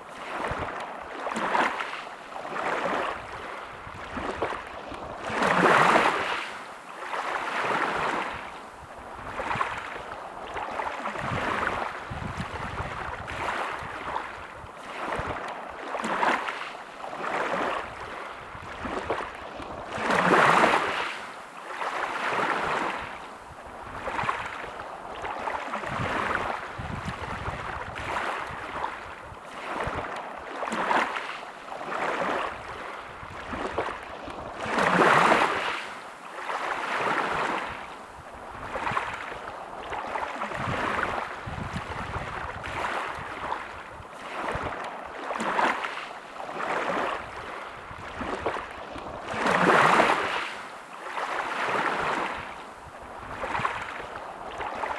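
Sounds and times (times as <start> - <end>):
bigger waves breaking: 0.0 - 54.9
small waves washing onto beach: 0.0 - 54.9.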